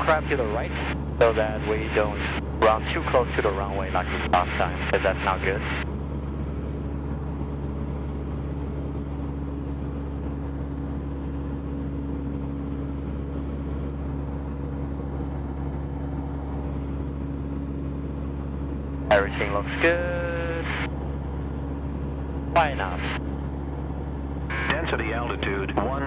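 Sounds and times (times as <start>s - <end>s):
aircraft propeller engine cruising: 0.0s - 26.0s.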